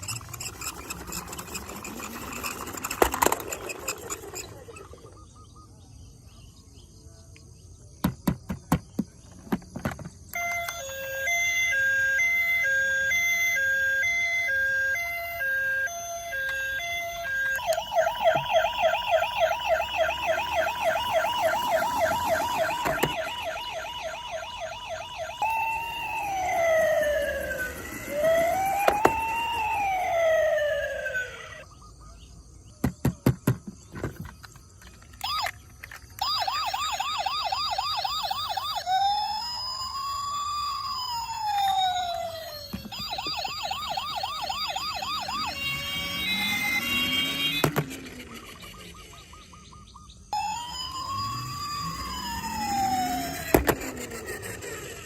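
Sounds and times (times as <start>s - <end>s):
toy electronic sirens: 0.0s - 5.8s, 9.5s - 31.7s, 34.0s - 55.0s.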